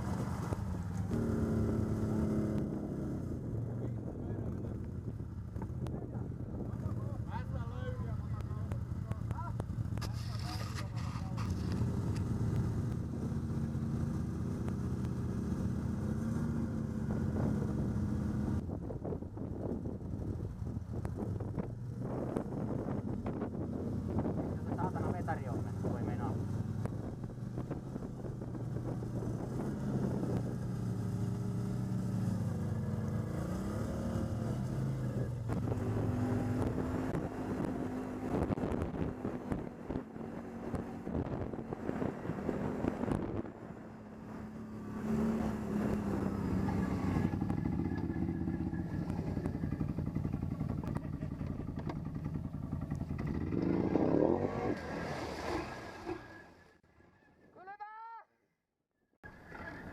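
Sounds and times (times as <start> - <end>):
atv engine revving: 0.0 - 4.6, 6.6 - 18.6, 21.1 - 56.6, 59.2 - 59.9.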